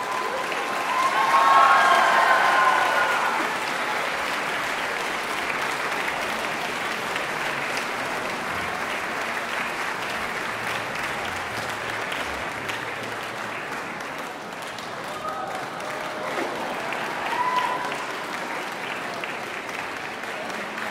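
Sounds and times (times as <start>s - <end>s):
large audience applauding: 0.0s - 20.9s.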